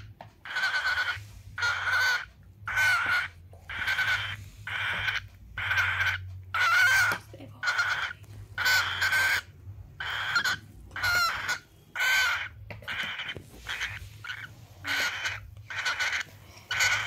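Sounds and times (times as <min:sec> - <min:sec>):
bird harsh rasping calls: 0:00.0 - 0:17.0.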